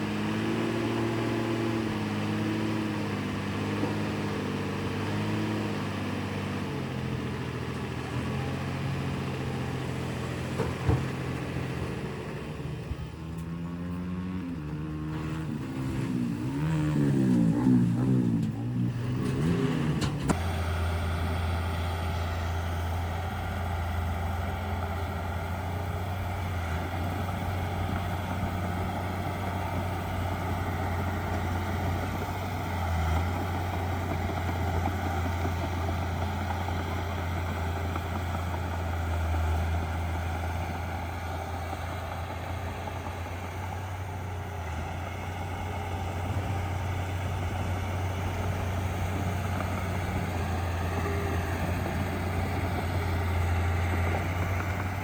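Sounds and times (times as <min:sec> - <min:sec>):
heavy diesel engines under load: 0:00.0 - 0:55.0
low engine hum: 0:00.0 - 0:55.0.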